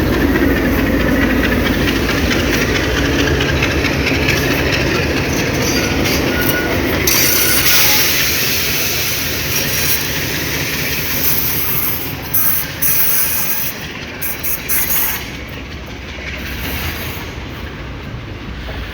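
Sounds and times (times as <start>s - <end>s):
diesel locomotives rumbling: 0.0s - 18.9s.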